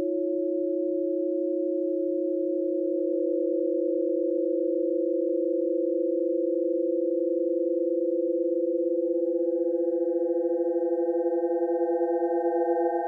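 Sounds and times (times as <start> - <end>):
two steady sine tones: 0.0 - 13.0.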